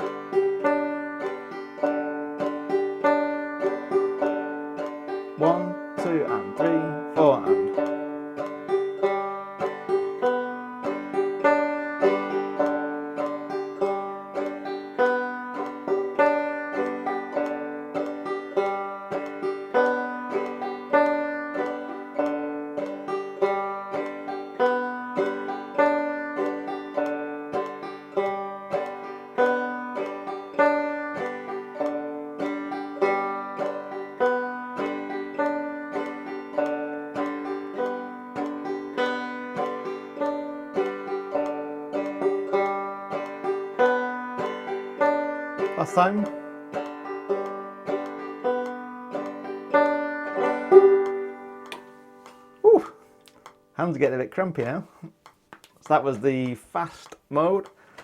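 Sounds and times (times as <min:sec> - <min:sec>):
banjo strumming: 0:00.0 - 0:58.0.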